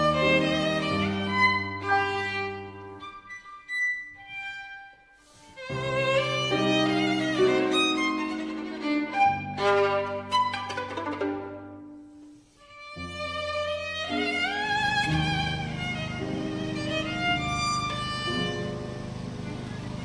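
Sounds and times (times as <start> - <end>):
instrumental music: 0.0 - 20.0.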